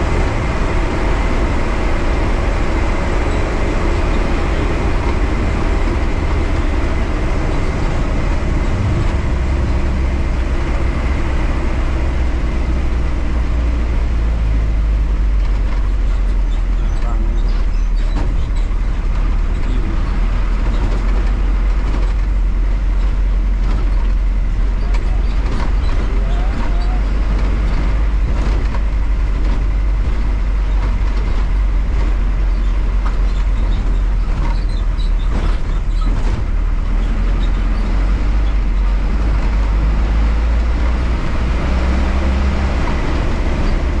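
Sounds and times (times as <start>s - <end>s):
clicks and rattles from bus body: 0.0s - 9.8s, 13.7s - 44.0s
bus engine rumbling: 0.0s - 44.0s
road noise: 0.0s - 44.0s.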